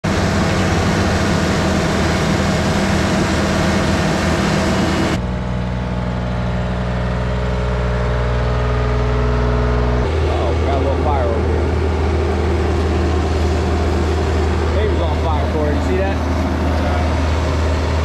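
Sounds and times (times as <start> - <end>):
asphalt roller engine driving: 0.0 - 18.0
loud diesel engines: 0.0 - 18.0.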